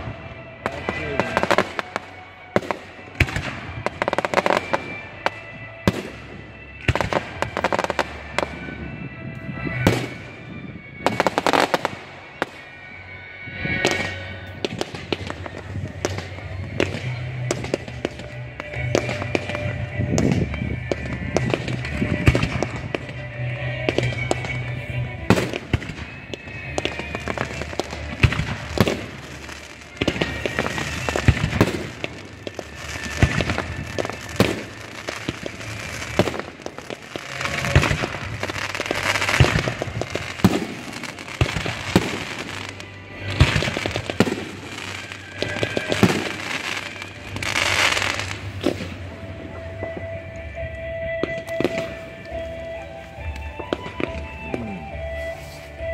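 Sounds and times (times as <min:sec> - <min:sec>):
fireworks bursting bangs: 0:00.0 - 0:12.8, 0:13.6 - 0:55.9
fireworks crackling: 0:00.0 - 0:55.9.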